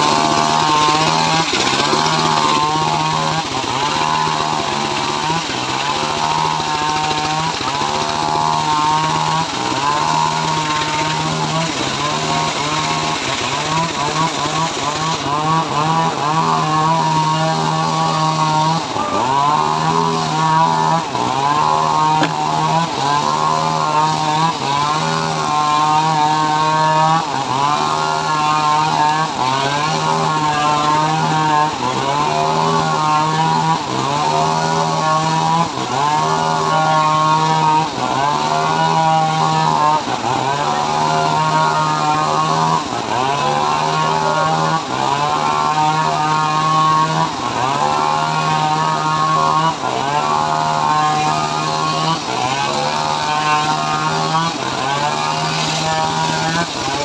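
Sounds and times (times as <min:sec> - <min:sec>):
saw ripping a log: 0:00.0 - 0:57.0
sawmill engine running: 0:00.0 - 0:57.0.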